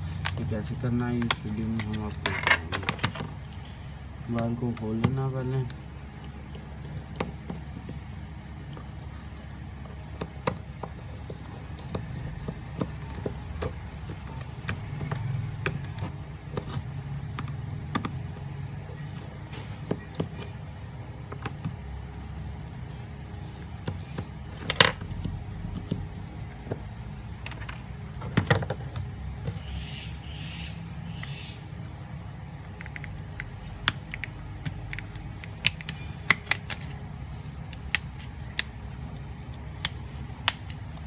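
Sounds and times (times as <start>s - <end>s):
low background hum: 0.0s - 41.0s.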